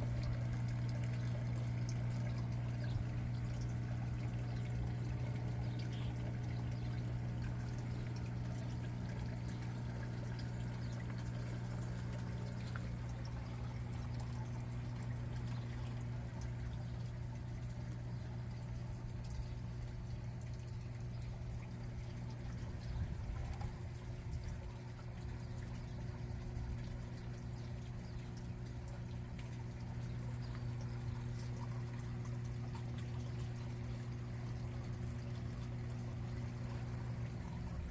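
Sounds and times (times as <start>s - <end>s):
water pouring and trickling: 0.0s - 37.9s.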